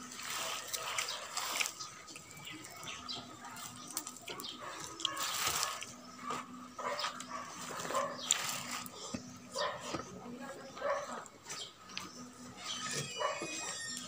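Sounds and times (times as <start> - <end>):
chewing: 0.0 - 14.0
fingers working rice: 0.0 - 14.0.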